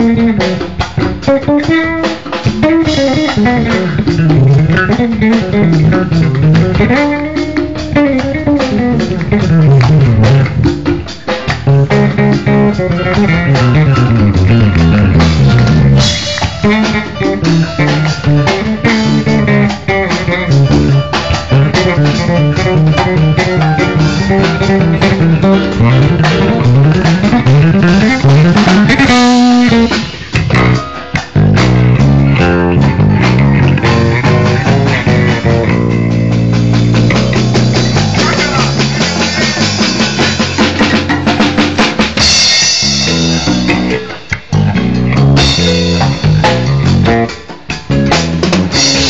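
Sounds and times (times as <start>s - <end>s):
bass guitar sliding notes: 0.0s - 49.0s
drum kit: 0.0s - 49.0s
guitar: 0.0s - 49.0s.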